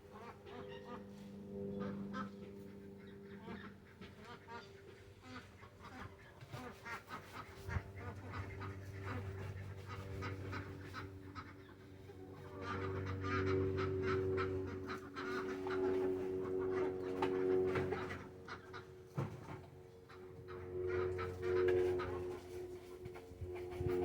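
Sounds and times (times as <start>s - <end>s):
low hum: 0.0s - 24.0s
ducks quacking: 0.1s - 24.0s.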